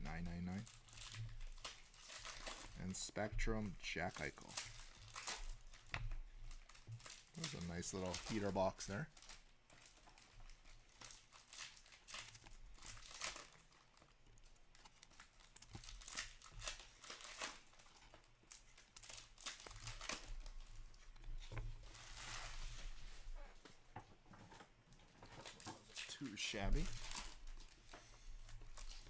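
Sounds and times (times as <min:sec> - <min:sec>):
wrappers crinkling and rustling: 0:00.0 - 0:29.0
wrapper tearing: 0:00.3 - 0:05.9, 0:06.5 - 0:21.1, 0:25.4 - 0:29.0.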